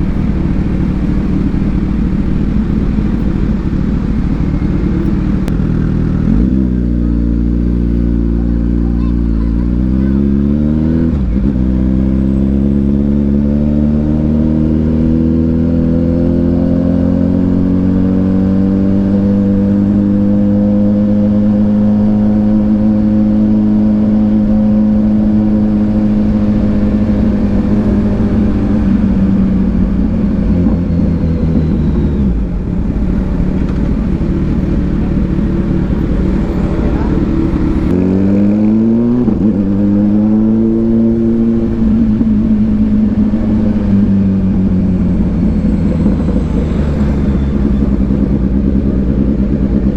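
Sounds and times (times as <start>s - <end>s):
motorcycle engine: 0.0s - 49.9s.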